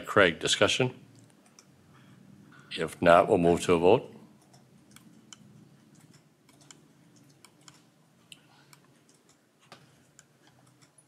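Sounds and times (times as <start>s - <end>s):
quiet room hum: 0.0s - 11.0s.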